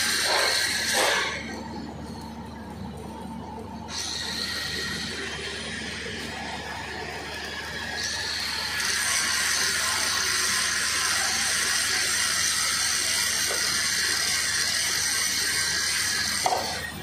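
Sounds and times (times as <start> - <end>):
welding arc crackling and hissing: 0.0 - 3.2, 3.9 - 17.0.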